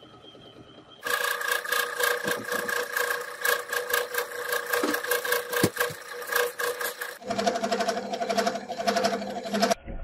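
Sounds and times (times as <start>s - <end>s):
metal lathe whining: 0.0s - 9.8s.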